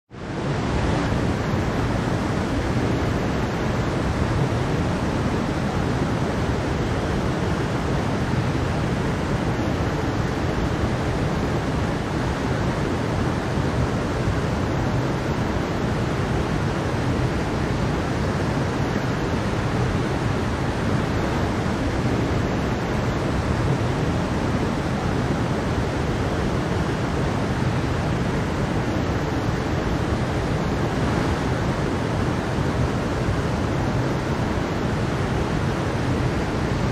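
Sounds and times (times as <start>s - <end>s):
stream rushing over rocks: 0.1s - 36.9s.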